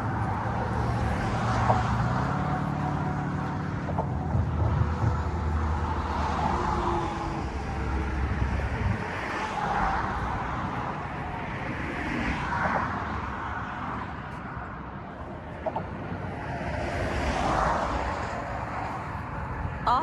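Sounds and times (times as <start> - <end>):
road traffic noise: 0.0 - 20.0
vehicle engine humming: 0.0 - 20.0.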